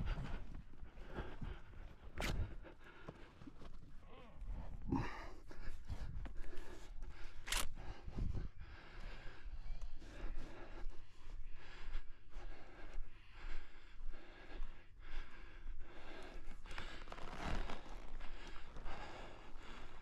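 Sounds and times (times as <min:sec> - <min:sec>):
heavy breathing: 0:00.0 - 0:20.0.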